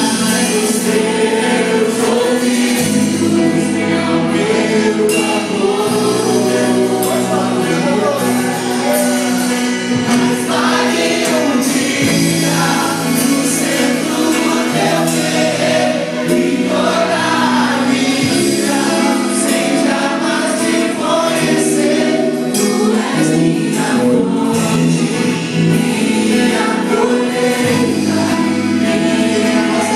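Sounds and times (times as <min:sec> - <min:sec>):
instrumental accompaniment: 0:00.0 - 0:29.9
voices singing together: 0:00.0 - 0:29.9.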